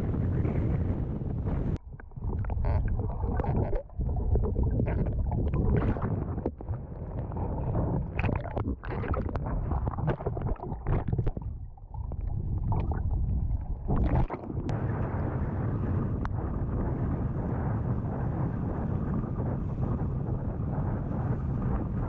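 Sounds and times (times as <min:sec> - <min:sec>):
muffled underwater water gurgling: 0:00.0 - 0:22.0.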